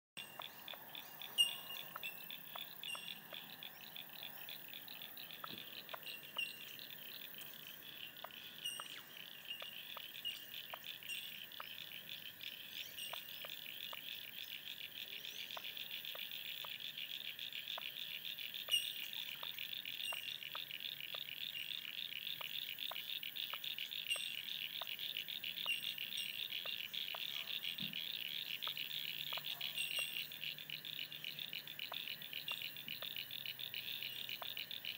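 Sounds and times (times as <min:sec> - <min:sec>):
chorus of small calling animals: 0:00.2 - 0:34.9
faint ticks: 0:00.2 - 0:34.9.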